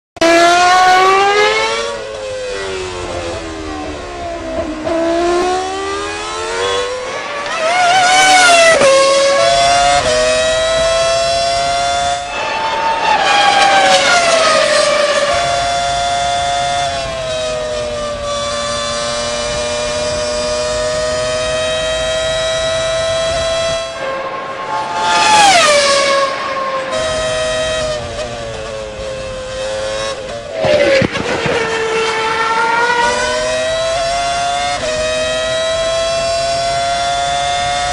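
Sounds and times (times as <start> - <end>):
racing car engine revving: 0.2 - 37.9.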